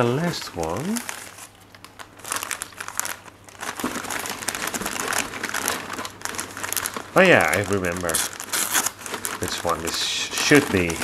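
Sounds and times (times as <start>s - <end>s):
paper packing rustling: 0.0s - 11.0s.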